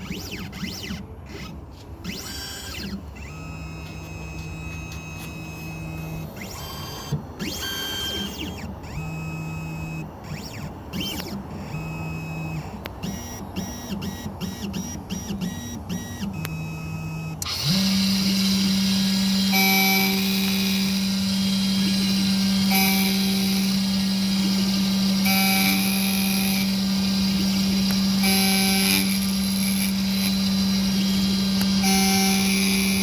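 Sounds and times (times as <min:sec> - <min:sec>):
key cutter humming and hissing: 0:00.0 - 0:33.0
stepper motor tones: 0:00.0 - 0:33.0.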